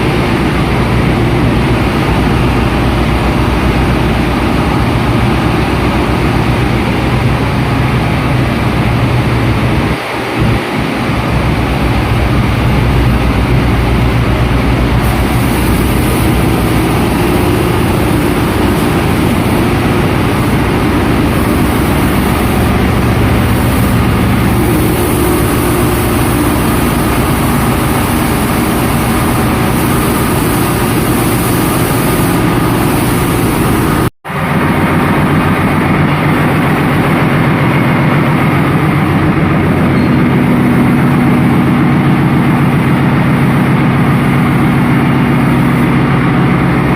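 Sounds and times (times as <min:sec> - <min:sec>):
ship engine room machinery: 0:00.0 - 0:46.9.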